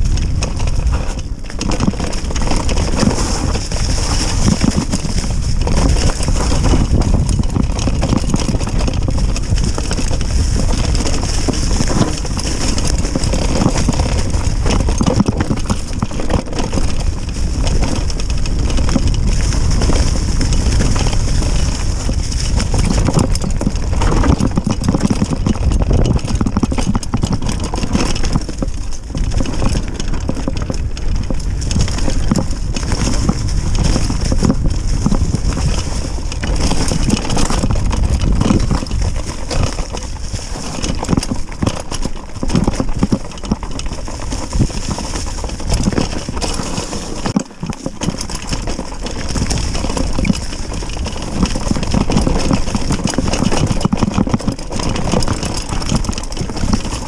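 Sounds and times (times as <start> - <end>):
bike knocking and rattling: 0.0 - 57.0
bike tyres rumbling on trail: 0.0 - 57.0.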